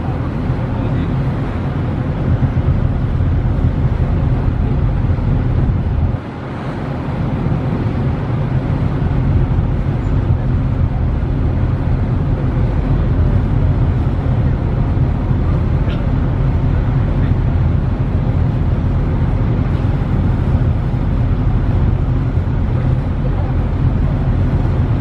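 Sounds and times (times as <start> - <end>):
ferry engine rumble: 0.0 - 25.0
wind on microphone: 0.0 - 25.0.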